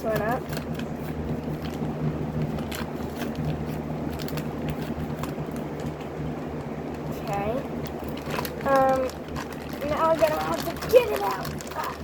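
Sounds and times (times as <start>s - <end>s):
plastic packaging crackling: 0.0s - 12.0s
steady low hum: 0.0s - 12.0s.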